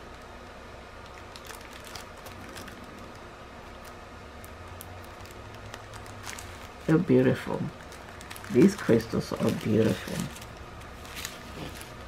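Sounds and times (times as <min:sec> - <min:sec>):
low steady hum: 0:00.0 - 0:12.0
plastic bags crinkling: 0:01.0 - 0:12.0.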